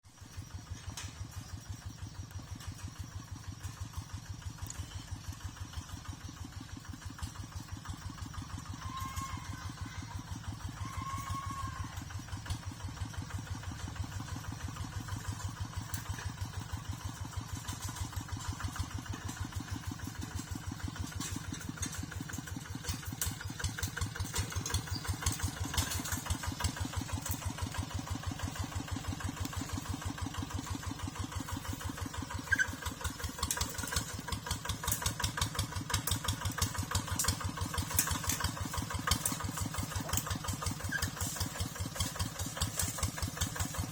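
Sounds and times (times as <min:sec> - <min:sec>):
tractor engine chugging: 0:00.0 - 0:43.9.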